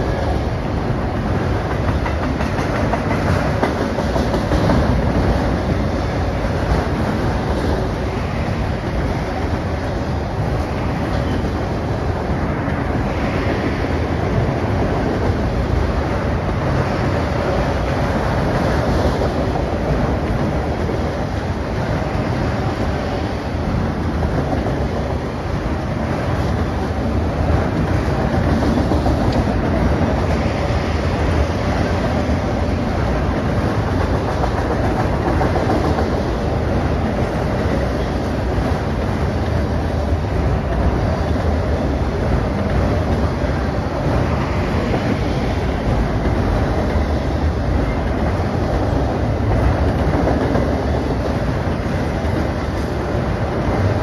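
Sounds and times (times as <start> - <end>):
freight train wheels on track: 0.0 - 54.0.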